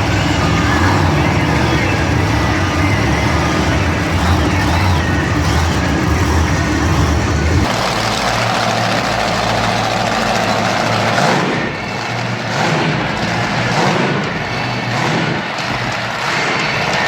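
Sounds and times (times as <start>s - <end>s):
truck engine running loudly: 0.0s - 17.0s.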